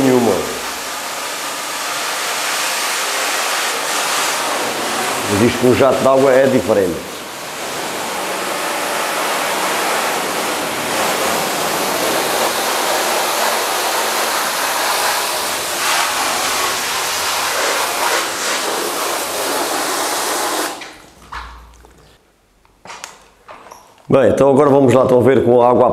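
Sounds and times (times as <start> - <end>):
hose spraying water on car: 0.0 - 21.0.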